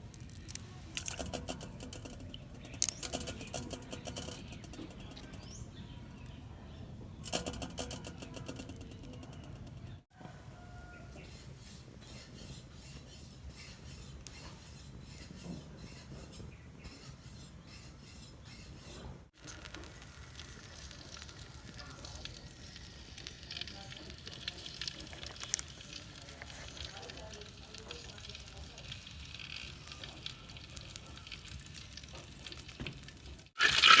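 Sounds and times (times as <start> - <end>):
fire sizzling and crackling: 0.0 - 34.0.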